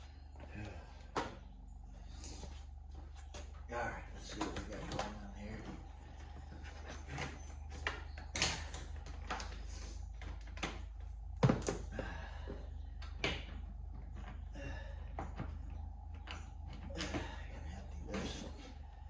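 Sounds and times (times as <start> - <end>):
steady low hum: 0.0 - 19.0
knocks and clacks of handling: 2.3 - 18.9.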